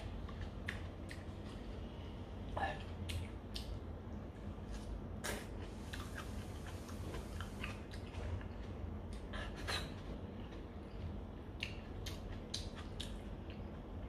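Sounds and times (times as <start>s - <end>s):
low steady hum: 0.0s - 14.0s
person chewing and smacking food: 0.0s - 14.0s.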